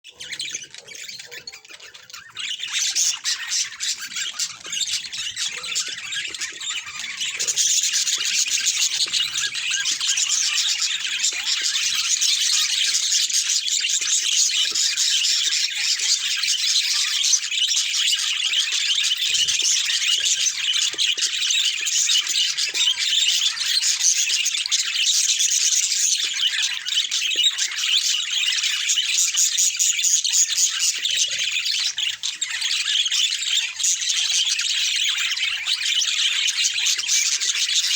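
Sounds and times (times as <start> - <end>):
budgerigars chattering and chirping: 0.1 - 37.9.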